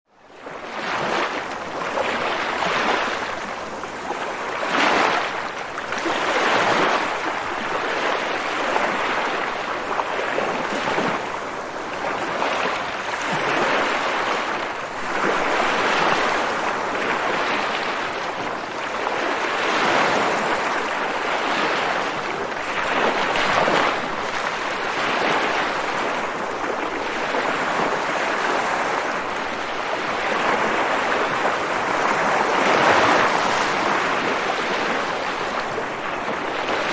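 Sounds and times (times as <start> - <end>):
rushing water: 0.4 - 36.9.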